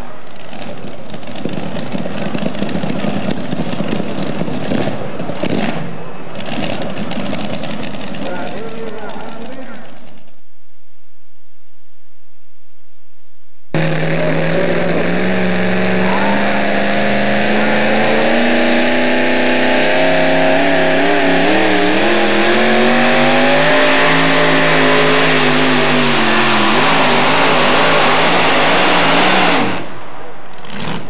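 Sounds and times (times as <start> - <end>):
truck engine running hard: 0.0 - 10.2, 13.7 - 31.0.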